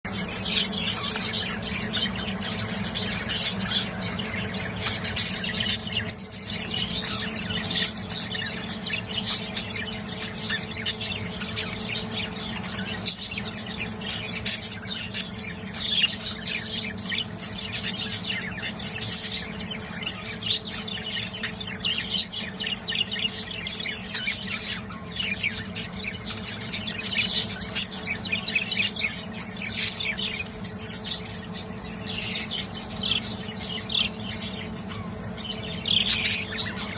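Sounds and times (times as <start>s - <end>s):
steady low hum: 0.0s - 36.9s
budgerigars chirping: 0.1s - 36.9s.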